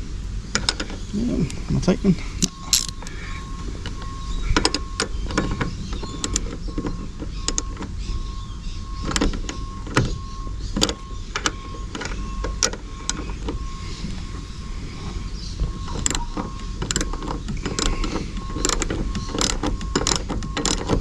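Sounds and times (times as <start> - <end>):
steady low rumble: 0.0 - 21.0
clicks and knocks of parts: 0.5 - 1.0, 2.3 - 8.2, 9.0 - 14.4, 15.6 - 21.0.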